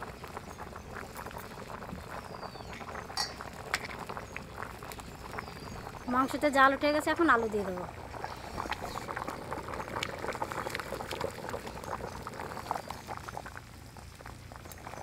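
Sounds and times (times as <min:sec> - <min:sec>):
curry boiling and bubbling: 0:00.0 - 0:15.0.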